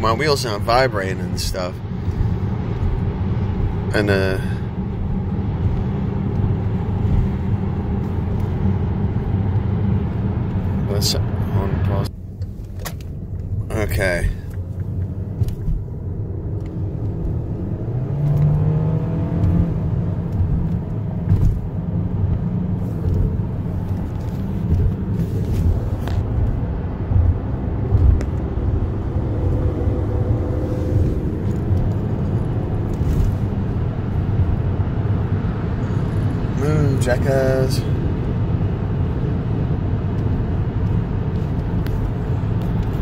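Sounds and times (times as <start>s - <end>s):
car road rumble: 0.0s - 43.0s.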